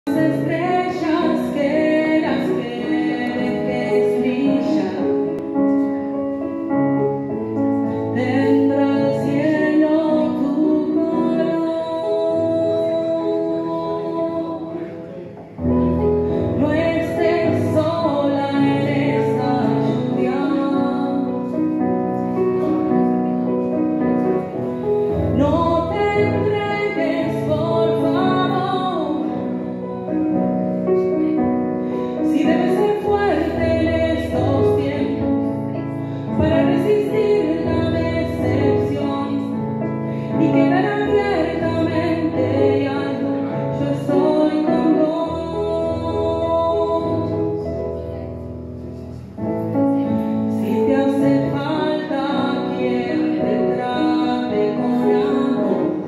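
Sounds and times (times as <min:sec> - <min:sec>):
woman singing: 0:00.0 - 0:05.5, 0:08.0 - 0:14.9, 0:15.9 - 0:22.8, 0:24.9 - 0:48.2, 0:49.8 - 0:56.0
digital piano: 0:00.0 - 0:56.0.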